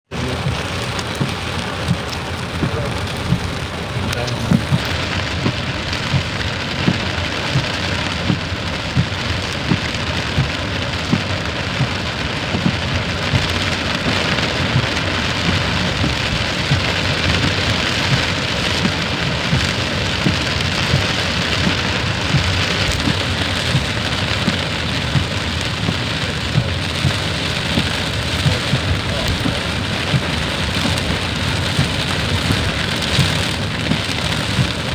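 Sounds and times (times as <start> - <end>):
heavy rain falling: 0.0 - 34.9
close raindrops landing: 0.1 - 34.9.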